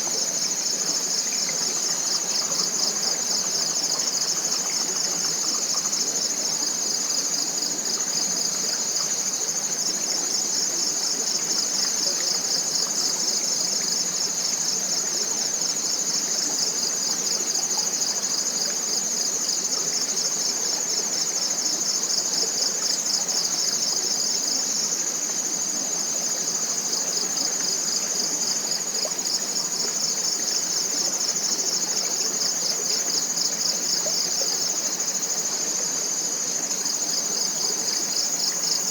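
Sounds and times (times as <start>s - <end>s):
insect chorus trilling: 0.0s - 38.9s.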